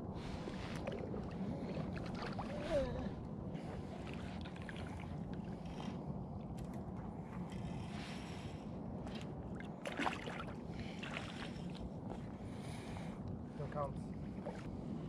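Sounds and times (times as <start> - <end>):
flowing river water: 0.0 - 12.9
wind rumble on microphone: 0.0 - 15.0.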